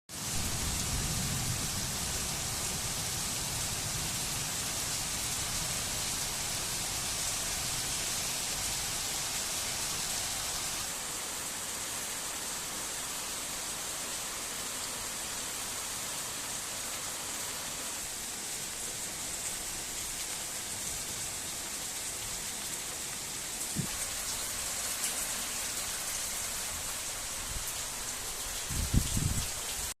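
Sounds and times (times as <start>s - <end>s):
rain falling: 0.1s - 30.0s.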